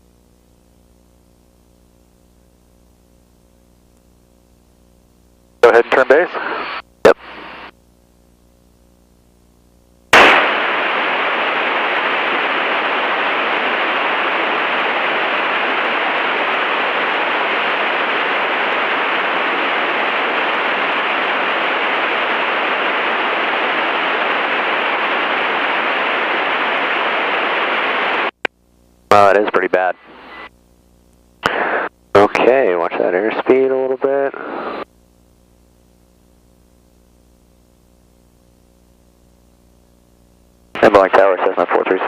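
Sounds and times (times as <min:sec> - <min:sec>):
radio static hiss: 0:00.3 - 0:08.0, 0:08.6 - 0:42.0.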